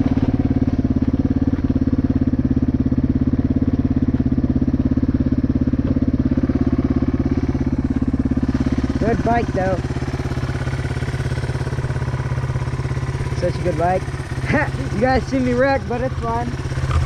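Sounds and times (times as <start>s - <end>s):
dirt bike engine idling: 0.0s - 17.0s.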